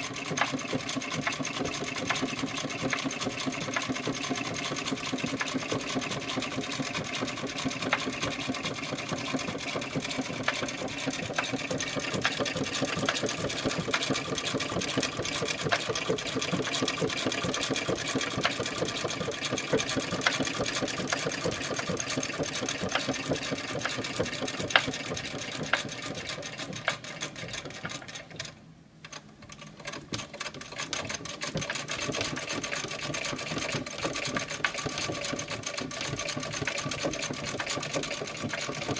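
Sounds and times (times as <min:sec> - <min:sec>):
sewing machine stitching: 0:00.0 - 0:38.9.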